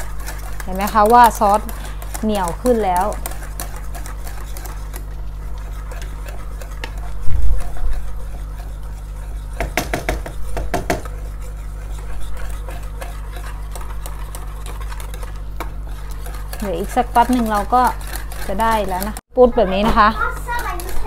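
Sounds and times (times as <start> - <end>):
steady low hum: 0.0 - 21.0
utensil scraping saucepan: 0.0 - 21.0.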